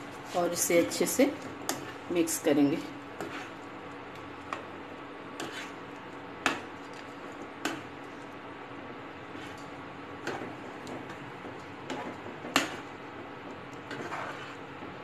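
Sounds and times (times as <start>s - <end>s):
spoon stirring in a frying pan: 0.0s - 15.0s.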